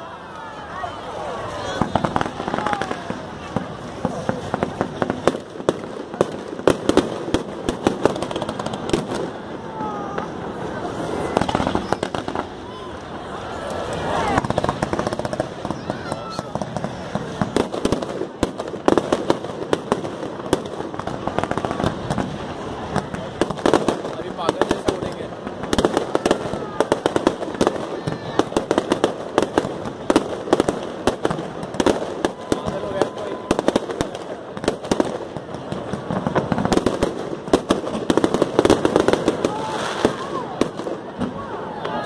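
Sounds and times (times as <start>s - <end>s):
continuous rumble: 0.0s - 42.0s
fireworks bangs and crackles: 0.0s - 42.0s.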